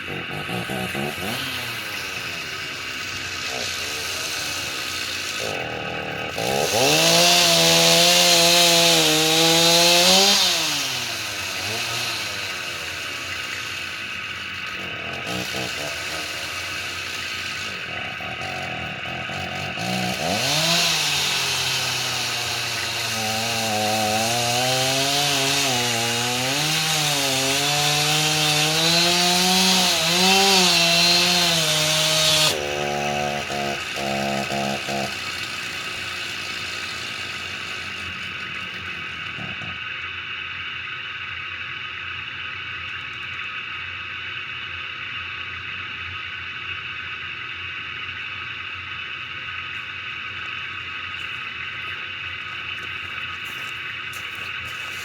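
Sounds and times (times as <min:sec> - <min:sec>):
chainsaw sputters: 0:00.0 - 0:40.4, 0:49.6 - 0:55.0
chainsaw running: 0:00.0 - 0:41.6, 0:48.1 - 0:55.0.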